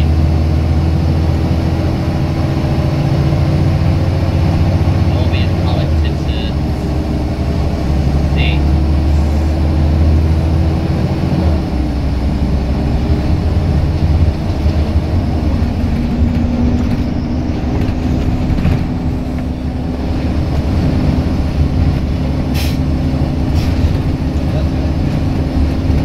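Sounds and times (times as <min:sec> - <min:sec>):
bus diesel engine driven hard: 0:00.0 - 0:26.0.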